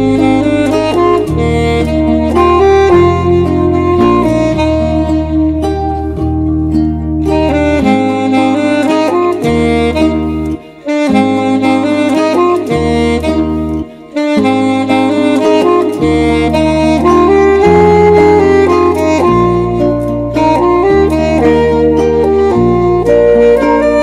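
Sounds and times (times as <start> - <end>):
backing track bass notes: 0.0 - 24.0
saxophone slow melody: 0.0 - 24.0.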